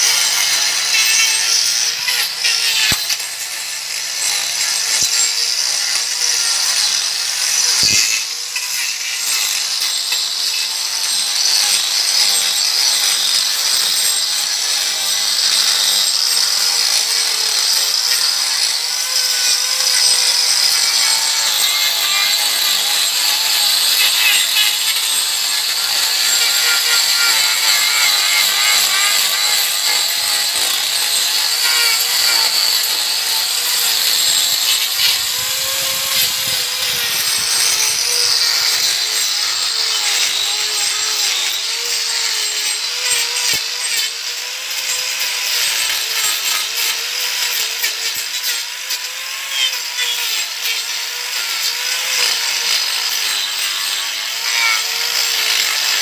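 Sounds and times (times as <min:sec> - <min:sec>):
angle grinder grinding: 0:00.0 - 0:56.0.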